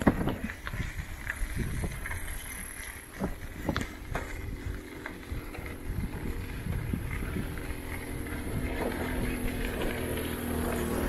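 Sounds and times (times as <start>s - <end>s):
bicycle tyres rumbling: 0.0s - 11.0s
bike knocks and rattles: 0.0s - 11.0s
wind on microphone: 0.0s - 11.0s.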